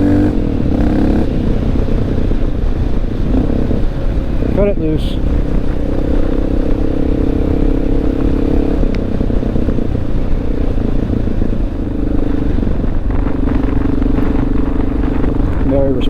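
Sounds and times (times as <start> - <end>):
low wind: 0.0 - 16.0
motorcycle engine running: 0.0 - 16.0
road rumble: 0.0 - 16.0.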